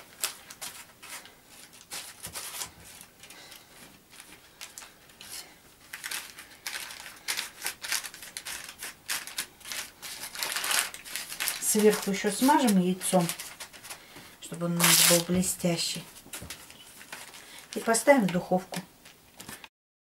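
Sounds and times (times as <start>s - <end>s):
baking parchment crinkling: 0.0s - 19.7s.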